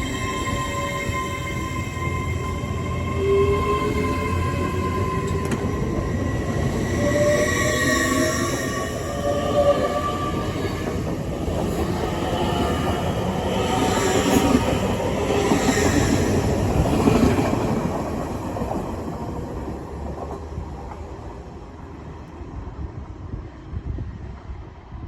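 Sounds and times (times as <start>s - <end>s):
passenger train pulling away: 0.0s - 24.1s.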